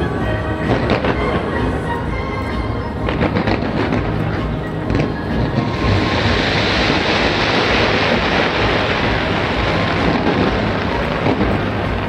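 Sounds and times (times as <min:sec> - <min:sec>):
fireworks rush of noise: 0:00.0 - 0:12.0.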